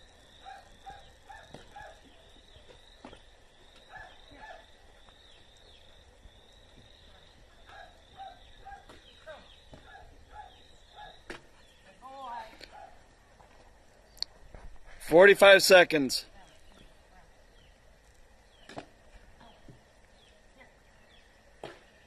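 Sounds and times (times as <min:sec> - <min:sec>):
birds chirping: 0:00.0 - 0:13.8, 0:15.4 - 0:22.0.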